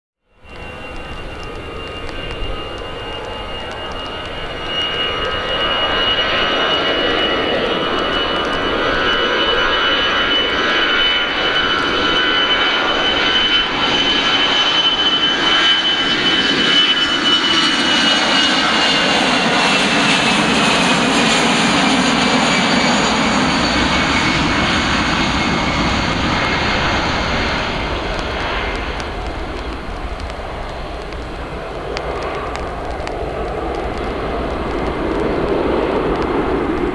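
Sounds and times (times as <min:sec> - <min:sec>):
high-pitched jet engine whine: 0:00.2 - 0:36.9
jet engines roaring at takeoff: 0:00.3 - 0:36.9.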